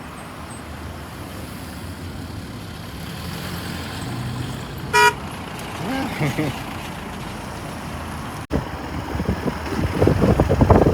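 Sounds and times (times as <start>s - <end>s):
vehicle engine and road rumble: 0.0s - 10.9s.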